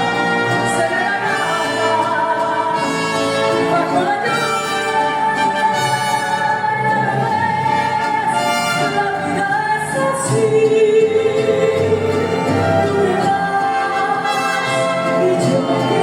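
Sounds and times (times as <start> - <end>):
orchestral accompaniment: 0.0 - 9.8, 11.4 - 16.0
woman singing a ballad: 0.6 - 16.0.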